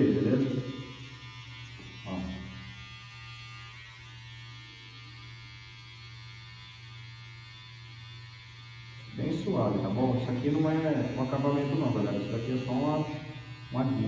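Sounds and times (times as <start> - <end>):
electric hair trimmer buzzing: 0.0 - 14.0.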